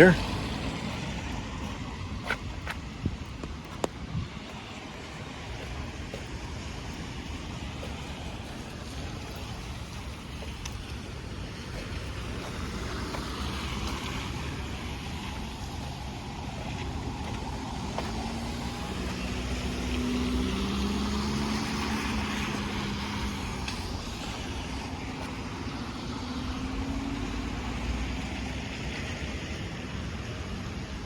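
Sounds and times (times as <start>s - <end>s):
car passing: 0.0s - 31.0s
faint vehicle passing: 0.0s - 31.0s
wind rumble on microphone: 0.2s - 31.0s
tyre hiss on wet road: 4.3s - 30.7s.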